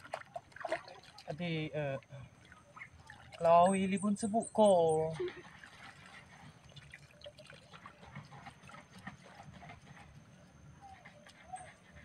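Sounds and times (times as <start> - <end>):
hand net in shallow water: 0.0 - 4.0, 5.0 - 12.0.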